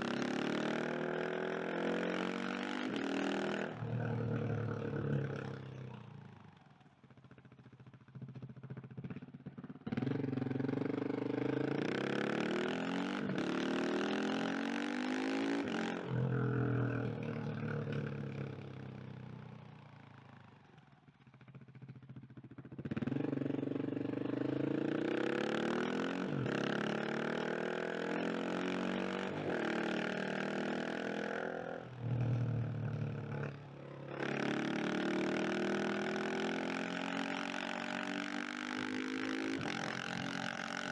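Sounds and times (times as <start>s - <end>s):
motorcycle engine accelerating: 0.0s - 6.7s, 8.2s - 20.7s, 21.8s - 40.9s.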